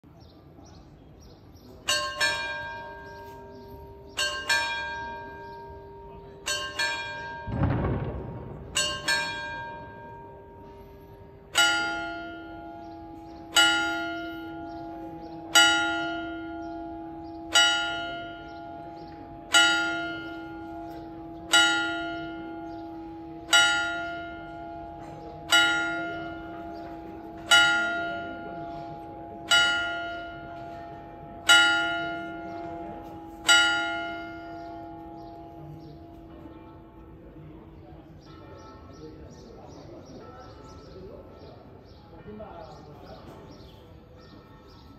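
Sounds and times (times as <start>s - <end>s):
clock tower bell striking: 1.8s - 44.9s.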